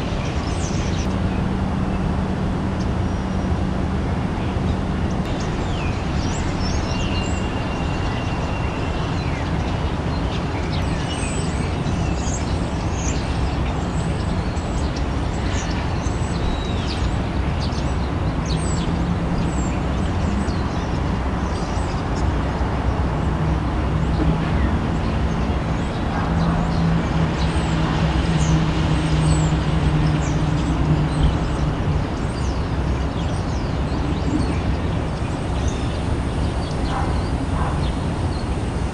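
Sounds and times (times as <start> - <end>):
low engine hum: 0.0 - 38.9
urban traffic: 0.0 - 38.9.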